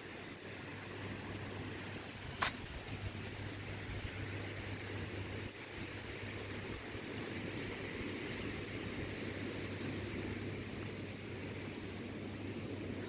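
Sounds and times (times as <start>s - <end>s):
constant low hum: 0.0s - 13.0s
wind blowing: 0.0s - 13.0s.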